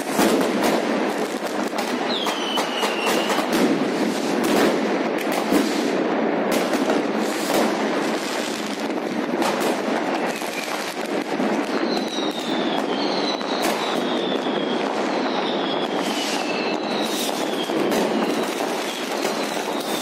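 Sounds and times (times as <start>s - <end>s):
falling firework whistles: 0.0s - 20.0s
firecracker bangs and rocket bursts: 0.0s - 20.0s.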